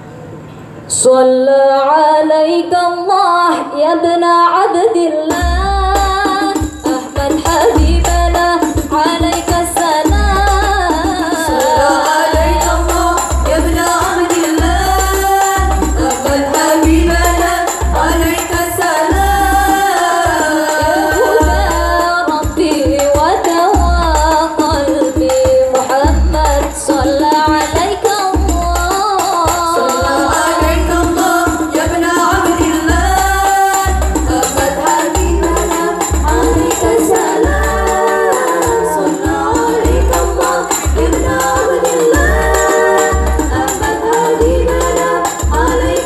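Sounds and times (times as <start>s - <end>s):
person singing devotional song: 1.0s - 46.0s
frame drums deep beat: 5.3s - 46.0s.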